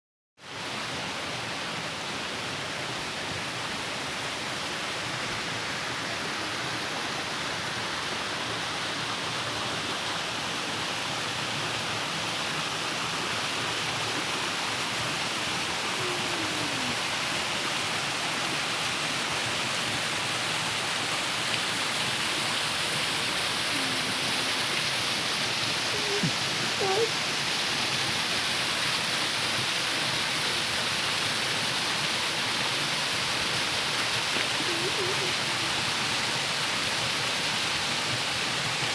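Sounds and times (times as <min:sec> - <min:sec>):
waterfall rushing: 0:00.9 - 0:38.9.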